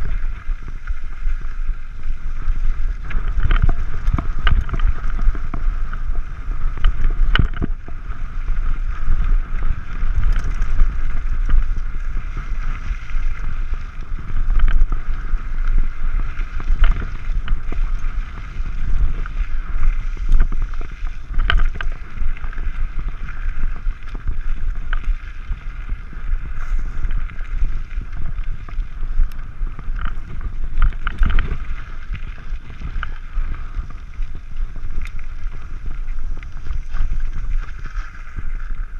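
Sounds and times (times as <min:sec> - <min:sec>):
bike rattling over rocks: 0:00.0 - 0:38.9
wind rumble on microphone: 0:00.0 - 0:38.9.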